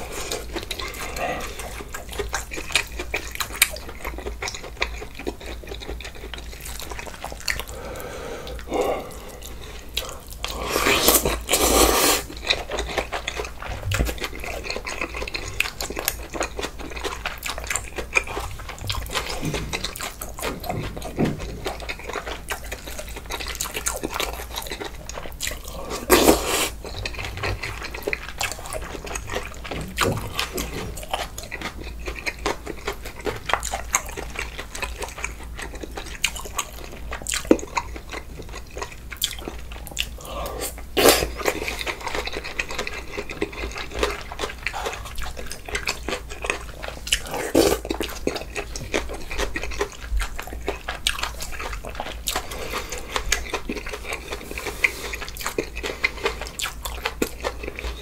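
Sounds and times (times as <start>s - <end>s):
wet chewing and mouth noises: 0.0s - 58.0s.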